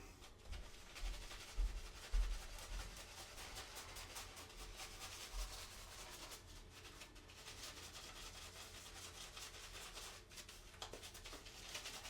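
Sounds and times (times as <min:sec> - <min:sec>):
shaving brush scrubbing stubble: 0:00.4 - 0:12.0.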